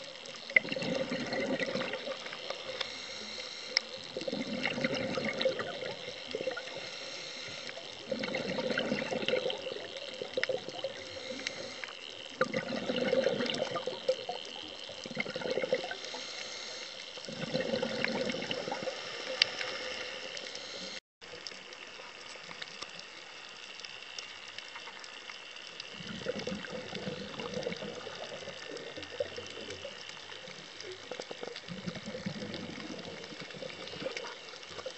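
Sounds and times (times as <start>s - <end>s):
exhaled bubbles rumbling: 0.0s - 21.0s, 25.8s - 34.9s
high underwater crackling: 0.0s - 34.9s.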